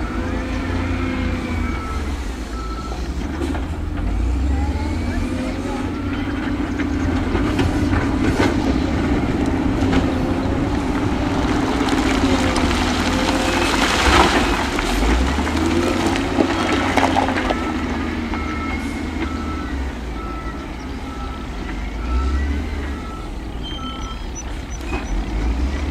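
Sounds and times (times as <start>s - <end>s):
diesel engine rumble: 0.0s - 25.9s.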